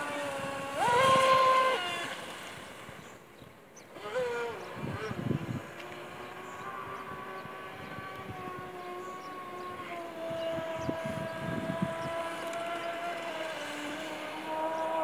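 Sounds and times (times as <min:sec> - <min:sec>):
electric motor whine: 0:00.0 - 0:03.2, 0:03.9 - 0:15.0.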